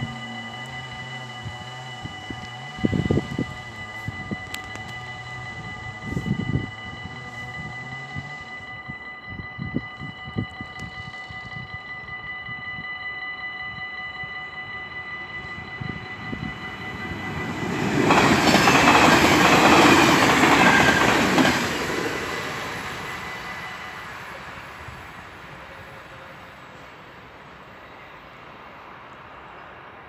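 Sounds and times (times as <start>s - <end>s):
level-crossing warning bell: 0.0s - 29.7s
train passing: 0.0s - 30.0s.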